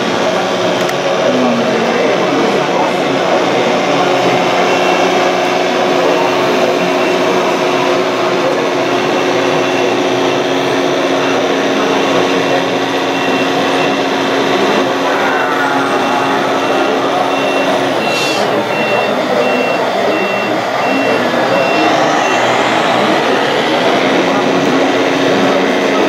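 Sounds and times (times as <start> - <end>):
toy bulldozer mechanical hum: 4.0 - 26.0.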